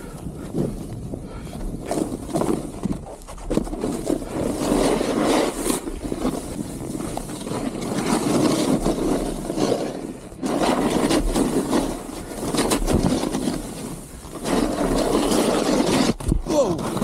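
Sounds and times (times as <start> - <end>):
snowboard scraping over snow: 0.0 - 17.0.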